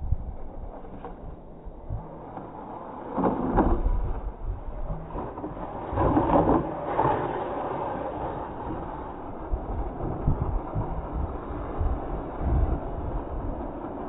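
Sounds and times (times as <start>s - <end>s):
low rumble: 0.0s - 14.0s
rc truck wheels churning sand: 0.0s - 14.0s.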